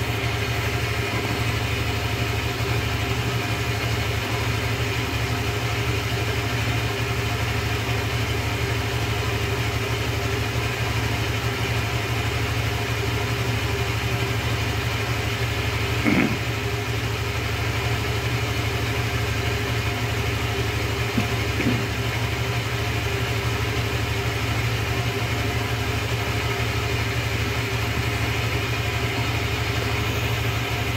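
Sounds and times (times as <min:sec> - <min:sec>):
scooter engine idling: 0:00.0 - 0:30.9.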